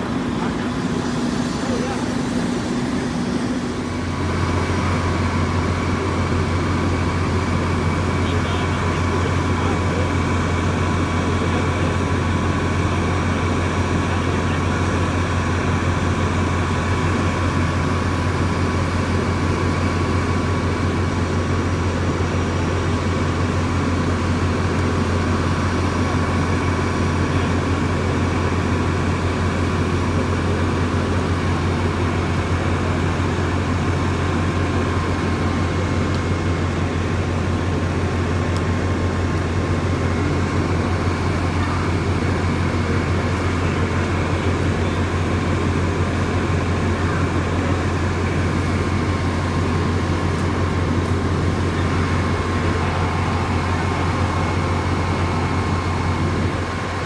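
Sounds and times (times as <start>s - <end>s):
diesel engines droning: 0.0s - 57.0s.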